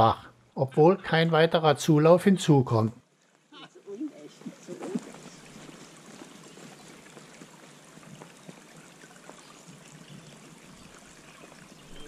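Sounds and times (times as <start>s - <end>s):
brook trickling and babbling: 0.0s - 12.0s.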